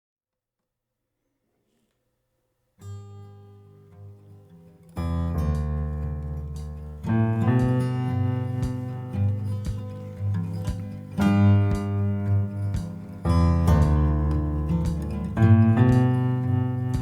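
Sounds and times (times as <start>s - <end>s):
acoustic guitar picked and strummed: 2.8s - 17.0s.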